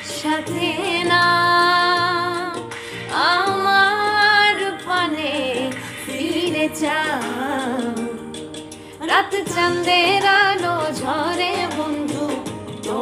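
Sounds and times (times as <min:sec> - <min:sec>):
musical backing: 0:00.0 - 0:13.0
woman singing: 0:00.0 - 0:13.0.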